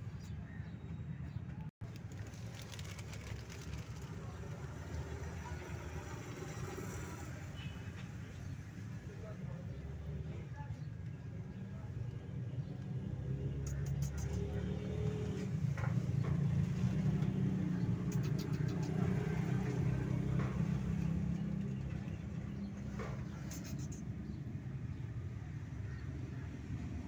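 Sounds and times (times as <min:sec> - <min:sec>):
low engine rumble: 0:00.0 - 0:07.5, 0:09.0 - 0:27.0.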